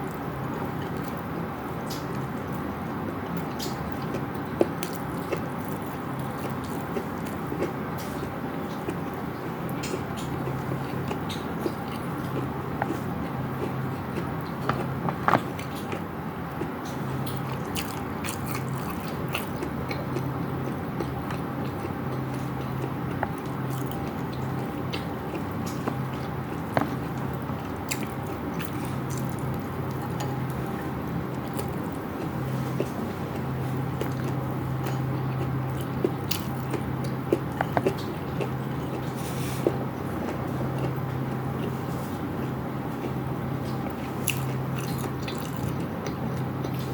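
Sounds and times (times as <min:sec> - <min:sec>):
person chewing food: 0:00.0 - 0:01.3, 0:03.2 - 0:46.9
steady low hum: 0:00.0 - 0:46.9.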